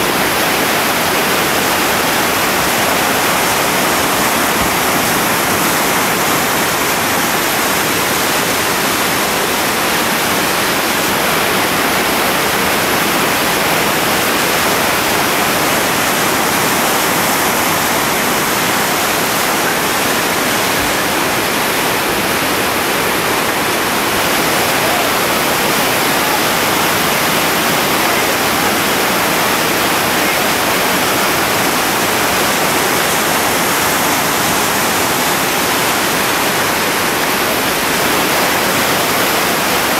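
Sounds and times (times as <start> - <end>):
whitewater rapid rushing: 0.0 - 39.9.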